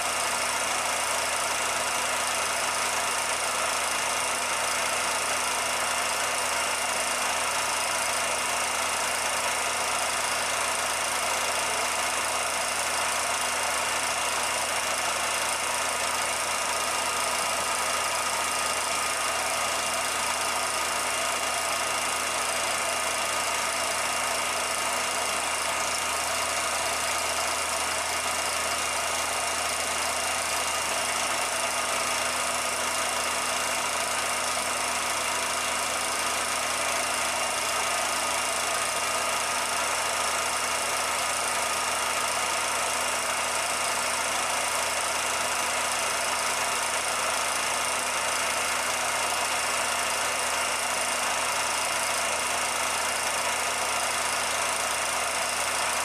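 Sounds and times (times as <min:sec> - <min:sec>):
film projector whirring and rattling: 0:00.0 - 0:56.0.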